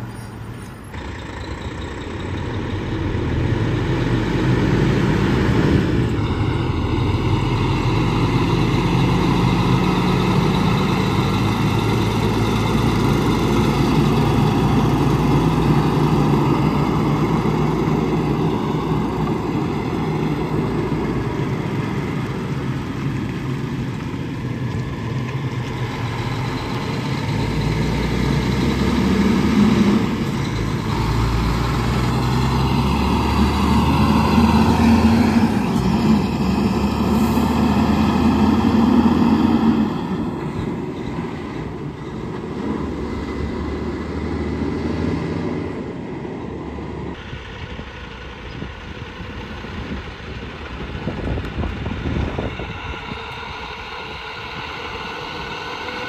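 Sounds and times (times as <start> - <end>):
heavy diesel trucks running: 0.0 - 56.0.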